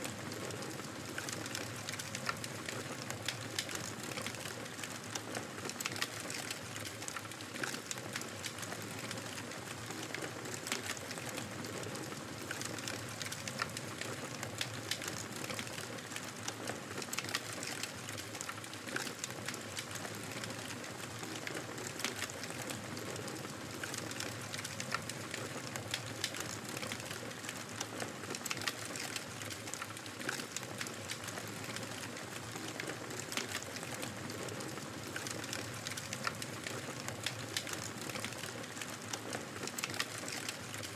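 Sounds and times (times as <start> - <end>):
fire crackling with pops: 1.1 - 11.3, 11.9 - 40.9.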